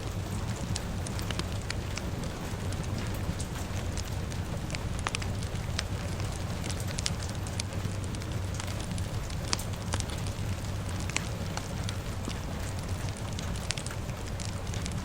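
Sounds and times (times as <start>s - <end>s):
fire crackling and popping: 0.0s - 15.0s
low rumble: 0.0s - 15.0s
rain hissing: 0.0s - 15.0s.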